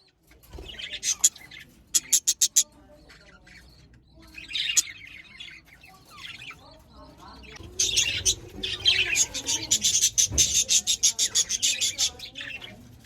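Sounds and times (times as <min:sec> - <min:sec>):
budgerigars chirping and chattering: 0:00.0 - 0:13.0.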